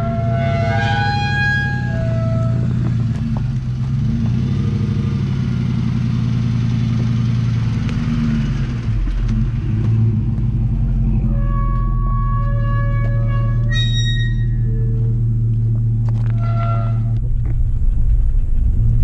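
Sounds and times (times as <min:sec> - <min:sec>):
truck engine at low revs: 0:00.0 - 0:19.0.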